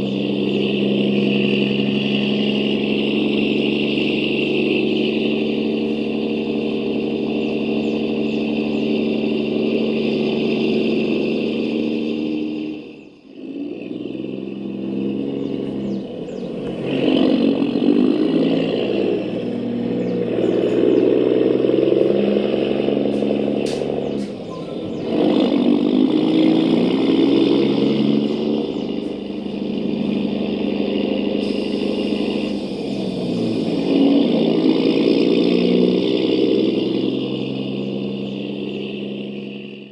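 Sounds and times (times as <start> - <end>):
model truck motor whine: 0.0 - 39.9.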